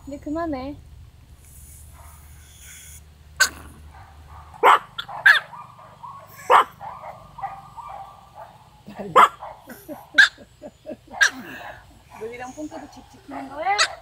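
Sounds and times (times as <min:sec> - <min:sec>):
small dogs yapping: 0:01.6 - 0:14.0.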